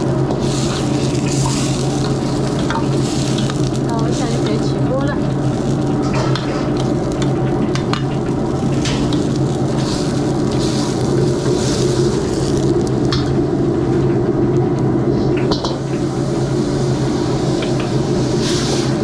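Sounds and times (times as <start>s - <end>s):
food sizzling in a wok: 0.0s - 14.2s, 15.2s - 19.0s
gas wok burner running: 0.0s - 19.0s.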